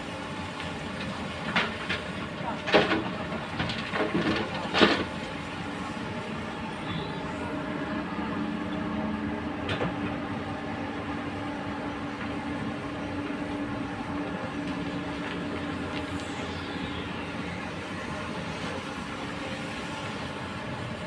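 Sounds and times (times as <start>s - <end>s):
excavator diesel engine humming: 0.0s - 21.0s.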